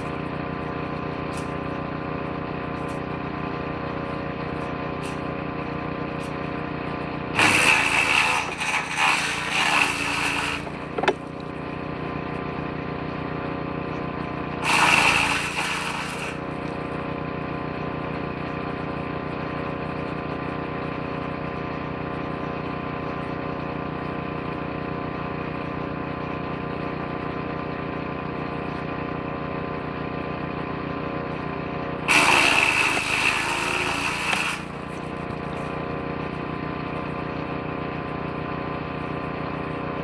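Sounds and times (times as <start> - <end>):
woodchipper engine running: 0.0 - 40.0.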